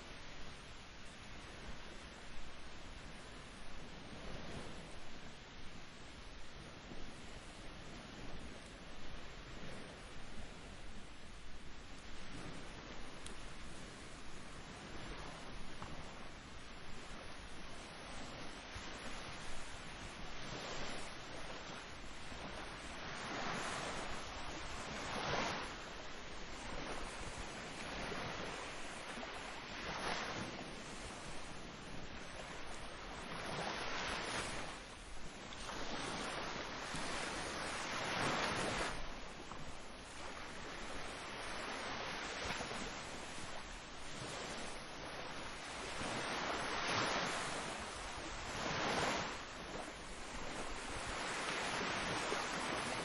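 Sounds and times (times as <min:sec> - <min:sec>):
ocean waves breaking: 0:06.8 - 0:53.0.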